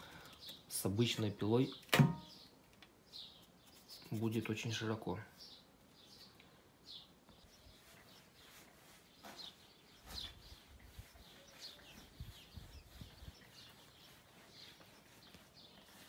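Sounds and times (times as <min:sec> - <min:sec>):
high falling bird chirps: 0:00.0 - 0:16.0.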